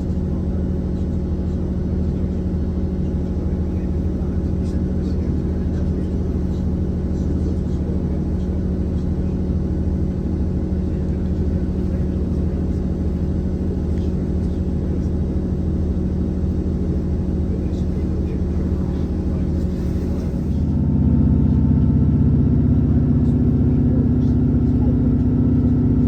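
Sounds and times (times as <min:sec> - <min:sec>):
train humming inside carriage: 0:00.0 - 0:26.0.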